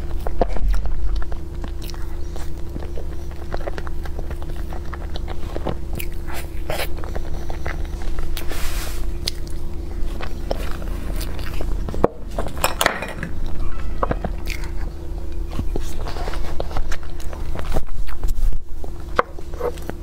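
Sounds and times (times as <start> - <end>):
person chewing: 0.0 - 12.6, 14.2 - 20.0
steady low hum: 0.0 - 20.0.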